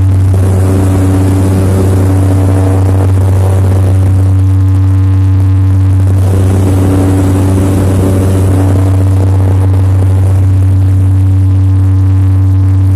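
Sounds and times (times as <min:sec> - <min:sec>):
rushing noise: 0:00.0 - 0:11.7
propeller engine drone: 0:00.0 - 0:12.9.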